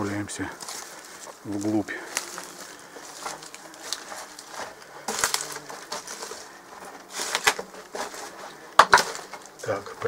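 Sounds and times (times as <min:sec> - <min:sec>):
footsteps crunching on rubble: 0:00.0 - 0:10.0.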